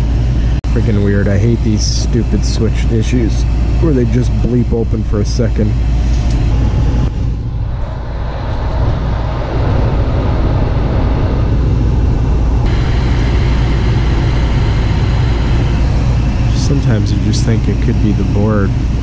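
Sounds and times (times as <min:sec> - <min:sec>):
furnace blower low rumble: 0:00.0 - 0:19.0.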